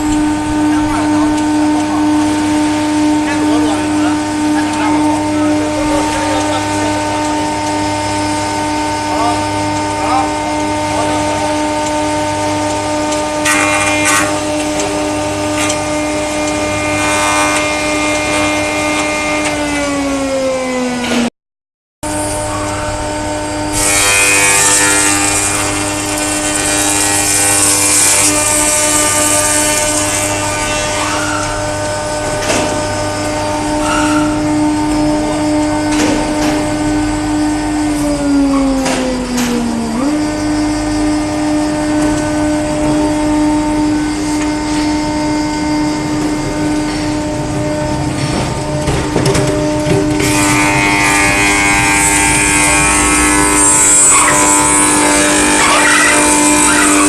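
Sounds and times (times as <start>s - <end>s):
wood planer humming and hissing: 0.0s - 21.3s, 22.1s - 57.0s.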